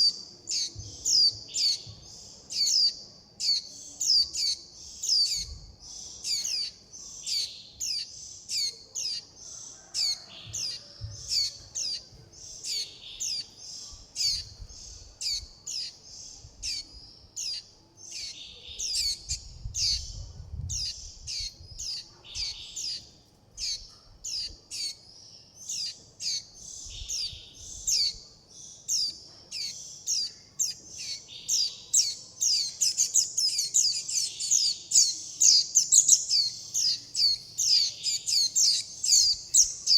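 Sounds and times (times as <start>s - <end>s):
young bird begging chirps: 2.5s - 25.0s, 25.7s - 39.9s.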